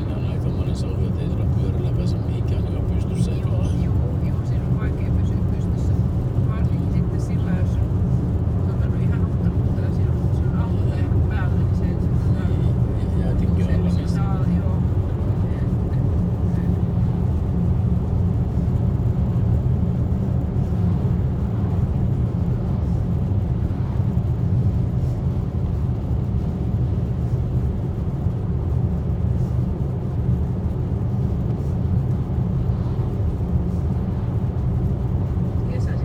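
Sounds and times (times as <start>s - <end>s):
car interior road rumble: 0.0s - 36.0s.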